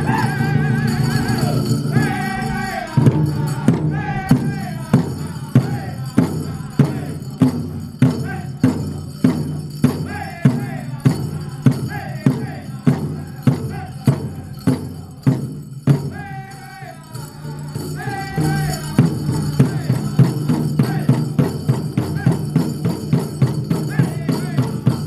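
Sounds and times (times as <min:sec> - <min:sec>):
big drum beating: 0:00.0 - 0:16.6, 0:17.4 - 0:25.0
high group singing: 0:00.0 - 0:22.8, 0:23.7 - 0:25.0.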